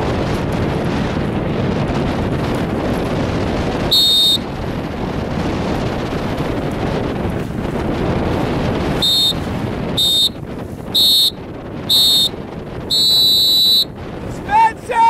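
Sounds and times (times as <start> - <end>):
water noise: 0.0 - 15.0
wind on microphone: 0.0 - 15.0.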